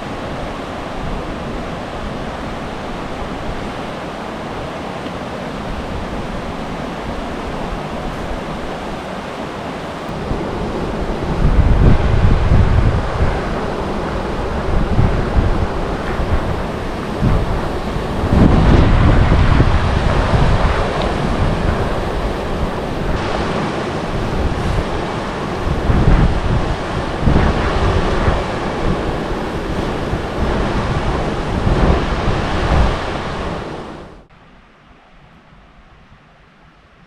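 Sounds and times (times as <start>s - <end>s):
wind buffeting microphone: 0.0s - 34.3s
rushing river water: 0.0s - 37.0s.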